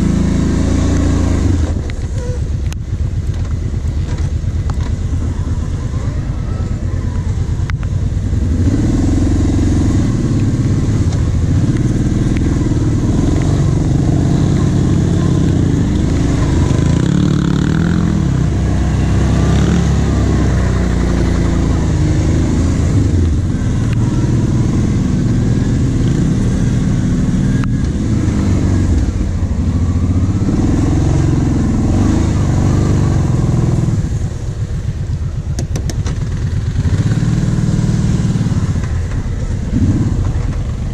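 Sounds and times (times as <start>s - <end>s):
atv engine running under load: 0.0s - 40.9s.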